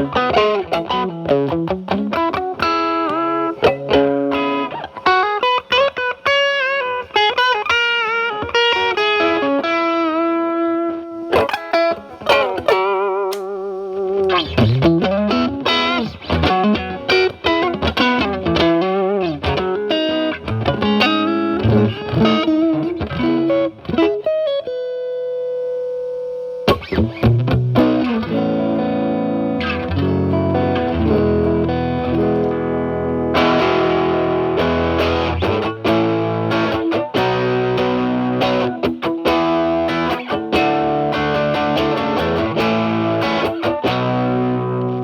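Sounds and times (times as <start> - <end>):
electric guitar lead lines: 0.0 - 45.0.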